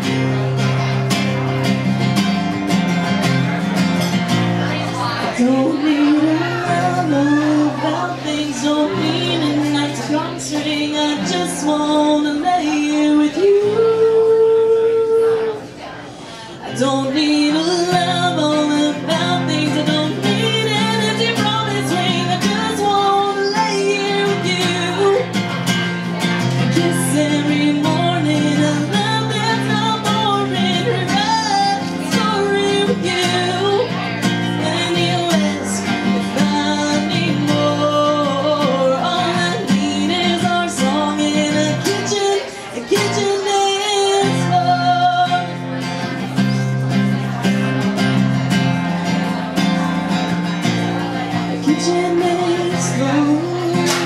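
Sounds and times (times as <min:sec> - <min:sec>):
acoustic guitar: 0:00.0 - 0:54.0
person singing country song: 0:00.0 - 0:54.0.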